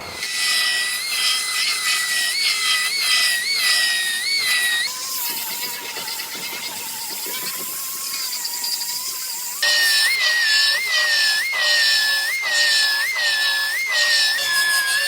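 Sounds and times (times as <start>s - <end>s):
grinder high whine: 0.0s - 15.0s.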